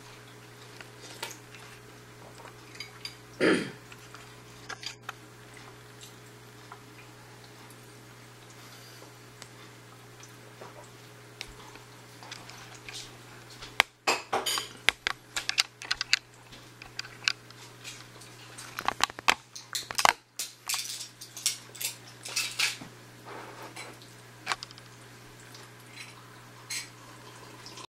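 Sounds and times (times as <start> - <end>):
aquarium pump hum: 0.0 - 27.9.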